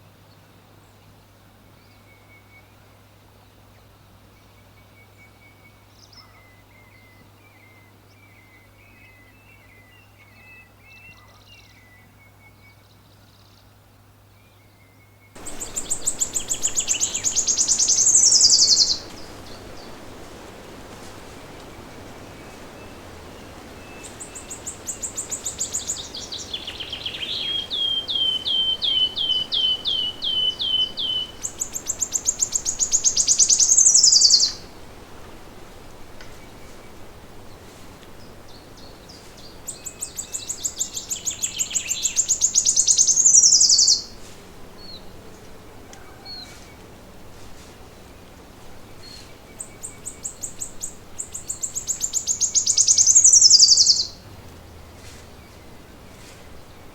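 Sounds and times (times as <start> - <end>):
songbird singing: 0.3 - 56.9.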